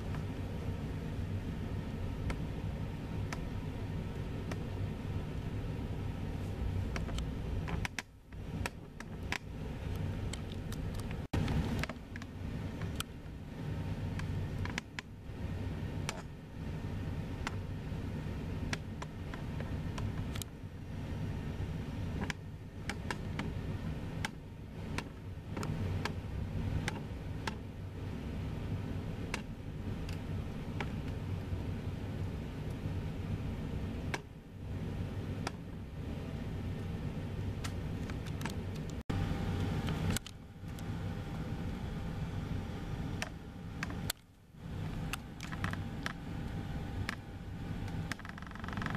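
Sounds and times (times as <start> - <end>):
jet aircraft rumble: 0.0 - 48.9.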